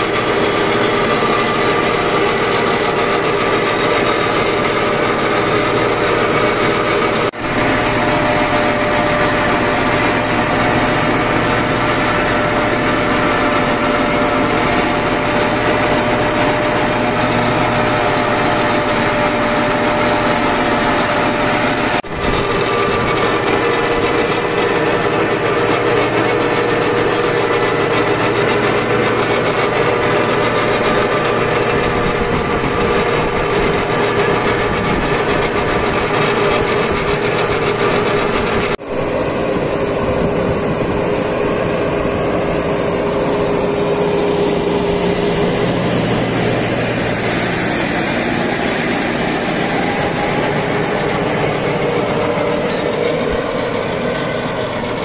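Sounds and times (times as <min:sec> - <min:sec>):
harrow clattering: 0:00.0 - 0:55.0
tractor engine droning: 0:00.0 - 0:55.0.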